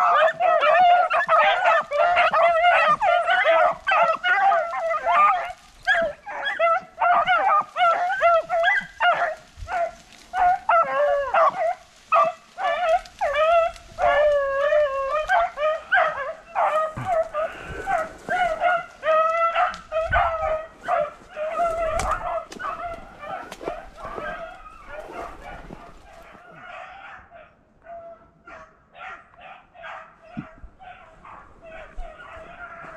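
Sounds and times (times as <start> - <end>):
dogs baying and howling: 0.0 - 32.9.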